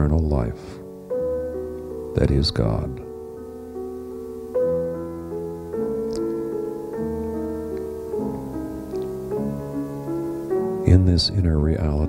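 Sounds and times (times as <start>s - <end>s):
soft music of held chords: 0.0s - 12.0s.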